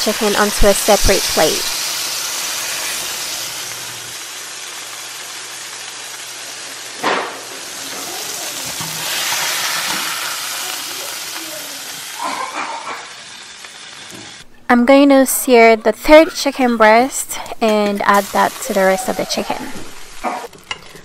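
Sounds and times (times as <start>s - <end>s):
chicken sizzling in oil: 0.0s - 14.4s, 17.9s - 20.3s.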